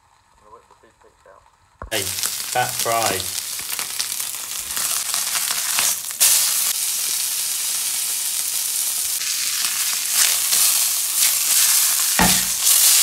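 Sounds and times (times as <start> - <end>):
steak sizzling in a pan: 1.9 - 13.0.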